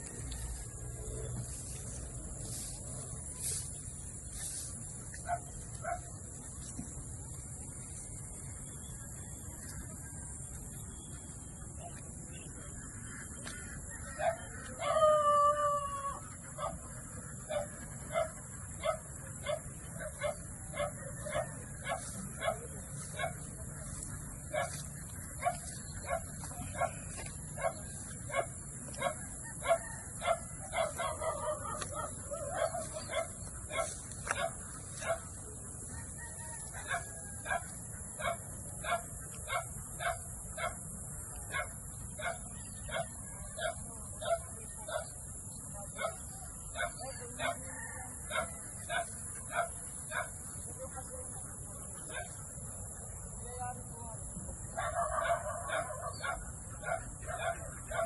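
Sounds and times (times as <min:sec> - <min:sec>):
farm animal calls: 0:00.0 - 0:58.0.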